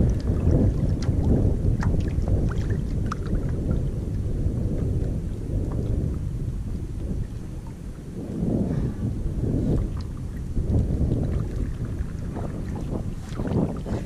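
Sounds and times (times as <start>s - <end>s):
water splashing against kayak: 0.0s - 14.0s
wind rumbling on microphone: 0.0s - 14.0s.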